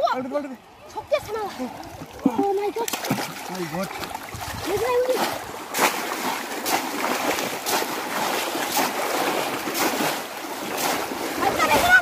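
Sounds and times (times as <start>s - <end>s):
people wading in water: 0.0s - 12.0s
fish trap splashing into water: 1.5s - 12.0s.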